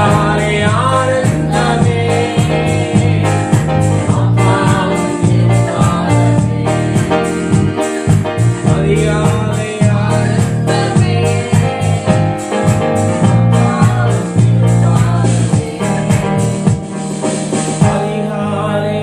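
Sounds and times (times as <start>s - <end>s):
person singing: 0.0s - 12.6s, 13.3s - 16.5s, 17.8s - 19.0s
worship music with steady beat: 0.0s - 19.0s.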